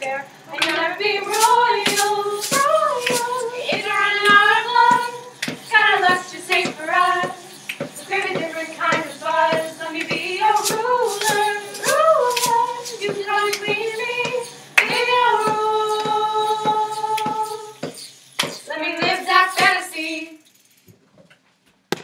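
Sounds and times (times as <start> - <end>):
girls singing in harmony: 0.5 - 17.9, 18.6 - 20.4
clapped body percussion: 0.6 - 19.8.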